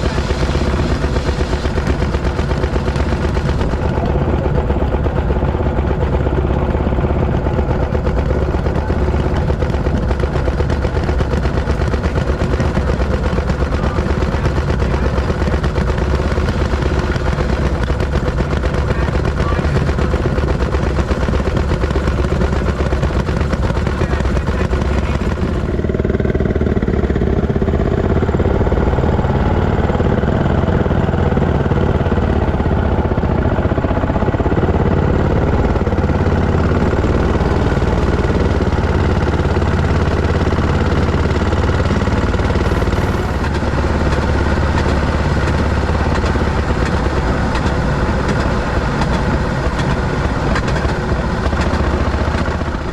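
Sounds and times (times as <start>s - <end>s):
two-stroke engine exhaust popping: 0.0s - 52.9s.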